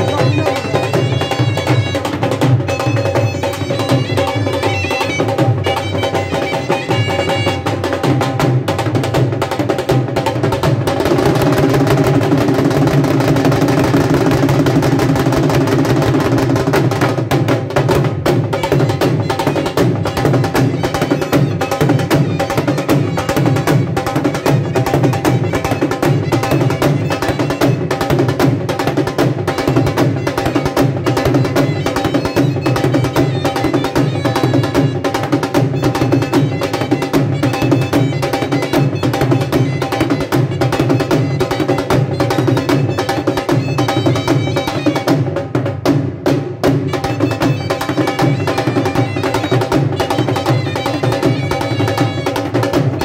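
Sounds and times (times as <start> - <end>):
drums played with sticks: 0.0 - 53.0.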